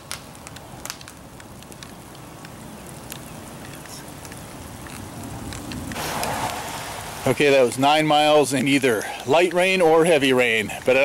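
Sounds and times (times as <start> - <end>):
bicycles on wet pavement: 0.0 - 11.0
steady rain: 0.0 - 11.0.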